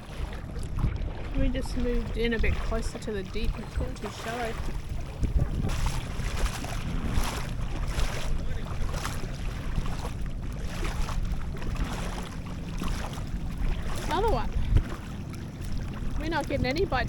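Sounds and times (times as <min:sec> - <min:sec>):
water lapping against boat: 0:00.0 - 0:17.0
wind buffeting microphone: 0:00.0 - 0:17.0.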